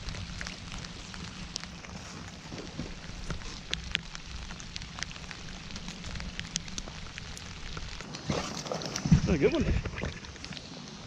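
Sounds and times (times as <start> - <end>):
raindrops ticking close by: 0.0 - 11.0
steady rain falling: 0.0 - 11.0.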